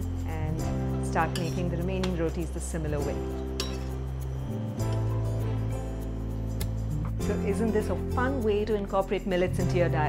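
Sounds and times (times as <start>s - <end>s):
background music sustained low notes: 0.0s - 10.0s.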